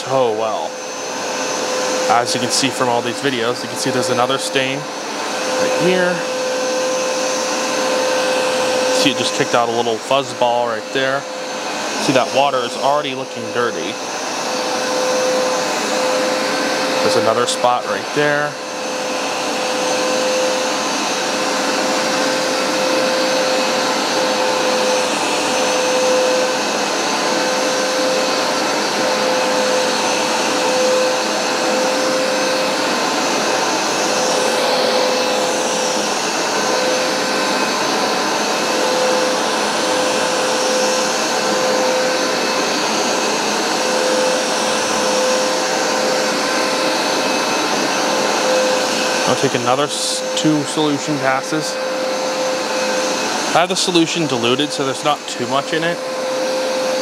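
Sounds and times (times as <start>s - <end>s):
carpet cleaner suction and motor whine: 0.0s - 57.0s.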